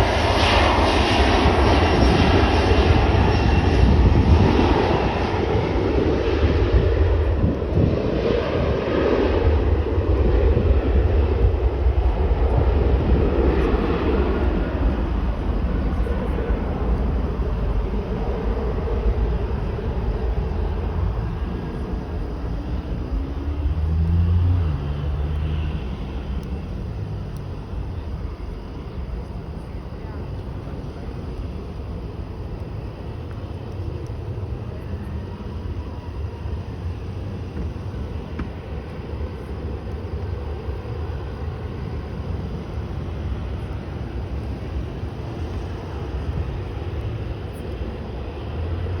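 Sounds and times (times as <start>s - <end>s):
jet engines rumbling on takeoff: 0.0s - 49.0s.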